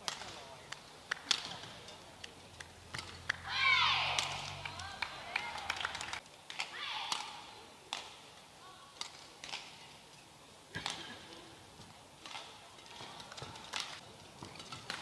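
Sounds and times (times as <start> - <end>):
rackets hitting shuttlecock: 0.0 - 5.7, 6.5 - 8.3, 9.0 - 9.9, 10.7 - 15.0.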